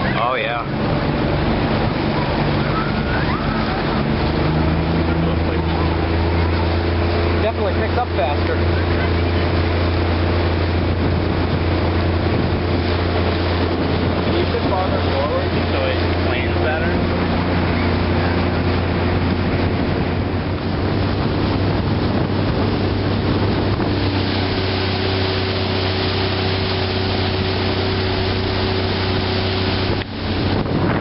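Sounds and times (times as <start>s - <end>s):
outboard motor running: 0.0s - 31.0s
water rushing past hull: 0.0s - 31.0s
wind buffeting microphone: 0.0s - 31.0s.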